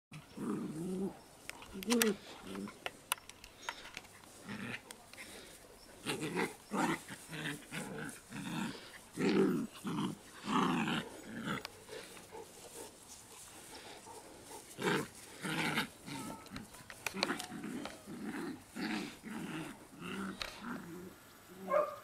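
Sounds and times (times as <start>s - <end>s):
dogs growling: 0.1s - 2.8s, 4.3s - 21.8s.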